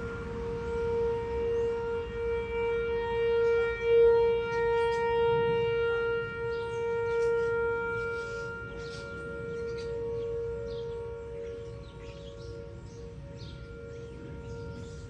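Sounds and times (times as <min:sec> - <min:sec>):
second higher siren tone: 0:00.0 - 0:15.0
tornado siren steady tone: 0:00.0 - 0:15.0.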